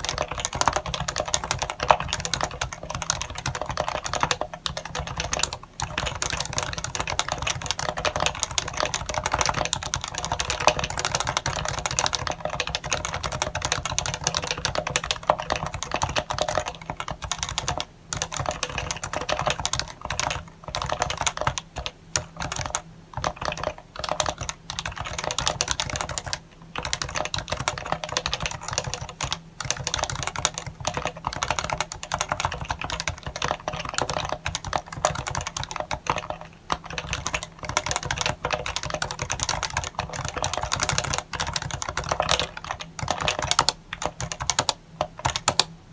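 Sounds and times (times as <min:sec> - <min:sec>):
fast typing on a keyboard: 0:00.0 - 0:45.7.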